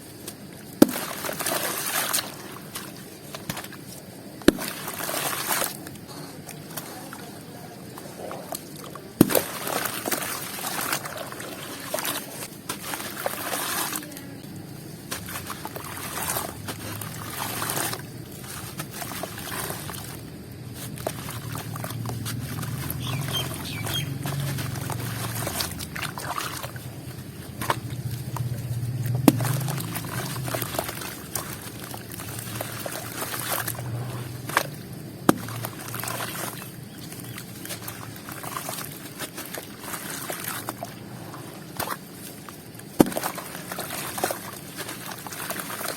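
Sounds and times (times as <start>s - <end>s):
water sloshing and trickling: 0.0s - 45.9s.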